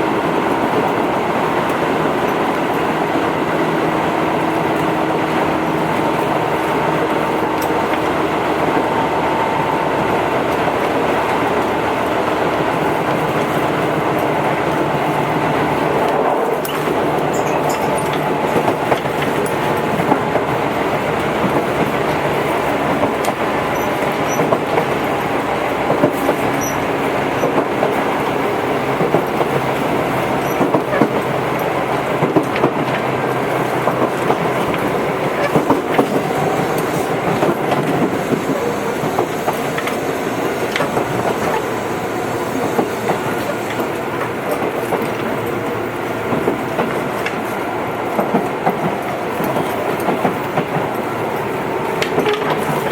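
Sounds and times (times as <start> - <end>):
train motor hum: 0.0 - 52.9
train wheels clicking over rail joints: 0.0 - 52.9.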